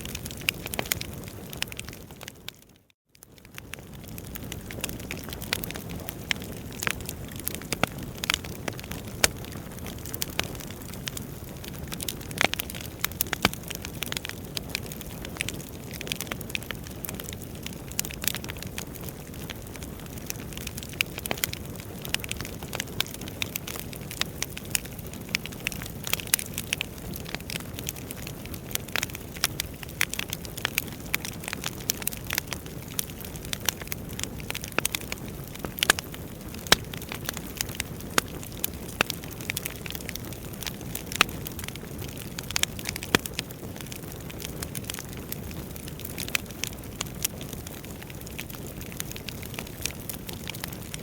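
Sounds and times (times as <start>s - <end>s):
fire crackles and pops: 0.0s - 51.0s
wood fire rushing flames: 0.1s - 2.2s, 3.3s - 51.0s.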